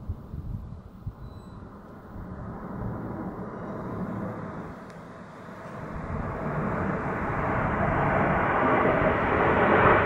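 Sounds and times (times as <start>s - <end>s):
jet fighters passing overhead: 0.0s - 10.0s.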